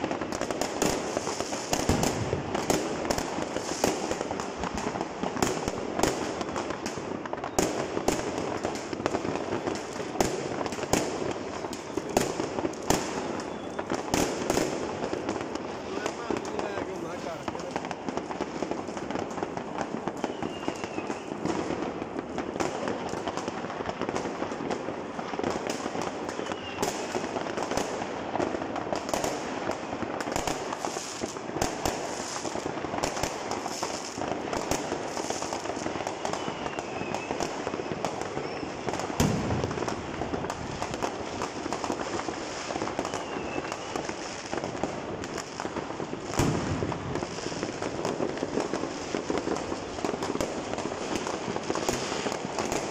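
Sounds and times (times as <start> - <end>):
fireworks crackling and popping: 0.0 - 52.9
loud firework bangs: 0.0 - 52.9.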